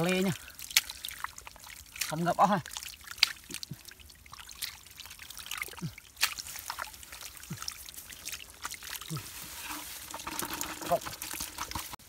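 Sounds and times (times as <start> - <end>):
hands sloshing through mud: 0.0 - 12.0.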